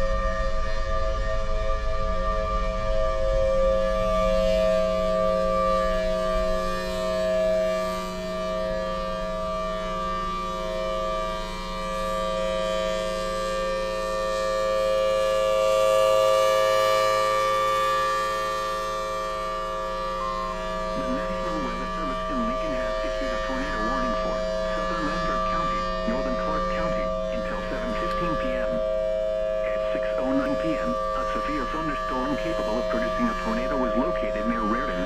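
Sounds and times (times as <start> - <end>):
warning siren chord: 0.0 - 35.0.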